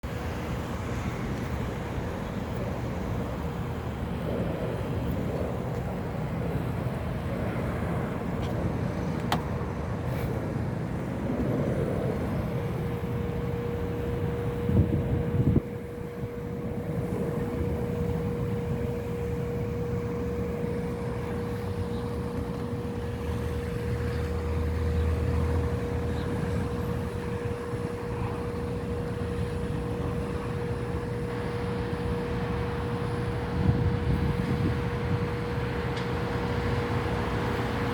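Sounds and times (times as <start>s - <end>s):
jet engines rumbling: 0.0s - 37.9s
steady hum: 0.0s - 37.9s.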